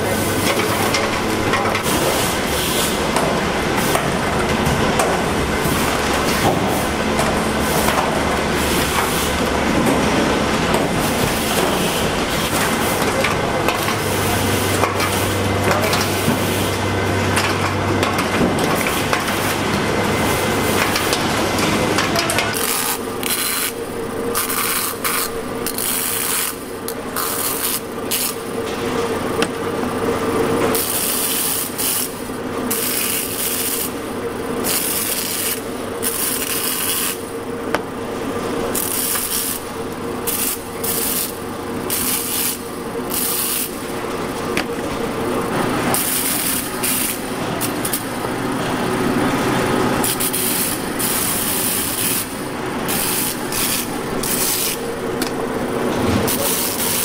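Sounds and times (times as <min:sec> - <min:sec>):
conveyor machinery running: 0:00.0 - 0:57.0.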